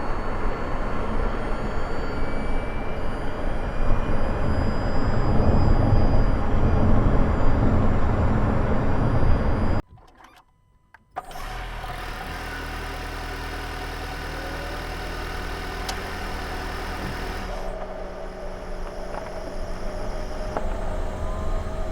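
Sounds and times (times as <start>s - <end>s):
engine running: 0.0s - 10.3s, 11.1s - 21.9s.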